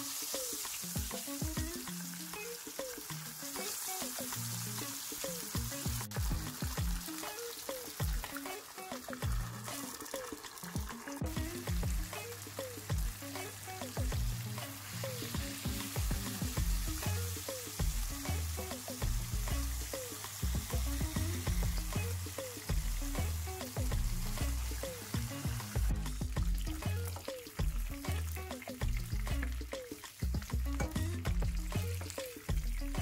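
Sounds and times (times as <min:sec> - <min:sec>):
fish frying in hot oil: 0:00.0 - 0:33.0
background music with deep bass: 0:03.0 - 0:33.0.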